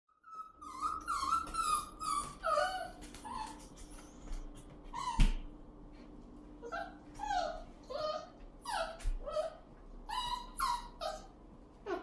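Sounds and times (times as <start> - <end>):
puppy whining: 0.1 - 5.4, 6.6 - 12.0.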